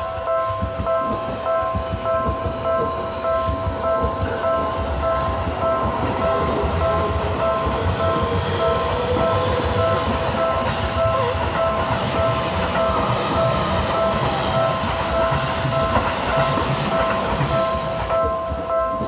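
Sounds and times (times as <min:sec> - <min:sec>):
crossing warning bell ringing: 0:00.0 - 0:19.0
train rumbling past: 0:00.0 - 0:19.0.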